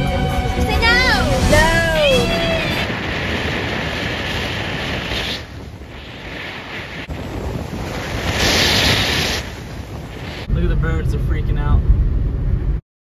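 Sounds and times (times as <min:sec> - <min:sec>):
storm wind buffeting microphone: 0:00.0 - 0:12.8.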